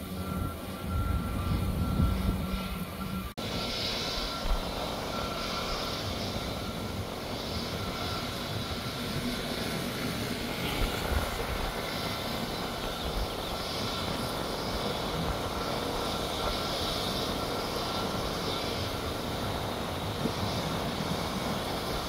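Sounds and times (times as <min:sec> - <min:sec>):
jet engines humming with whine: 0:00.0 - 0:22.0
wind buffeting microphone: 0:00.0 - 0:22.0.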